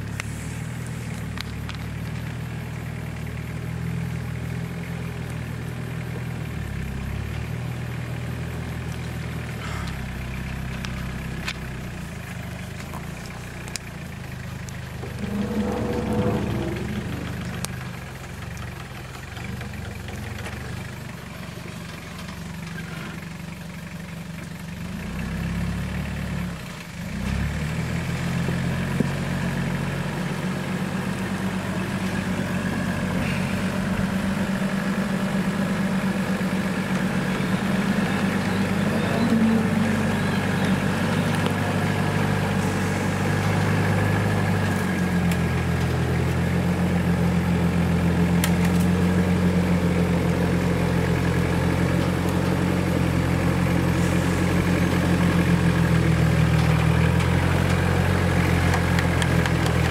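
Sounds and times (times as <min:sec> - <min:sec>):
truck engine at low revs: 0:00.0 - 0:59.9.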